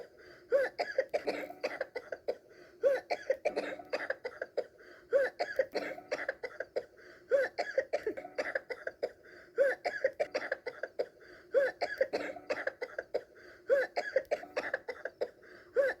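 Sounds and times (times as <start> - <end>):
high-pitched coughs: 0.5 - 16.0.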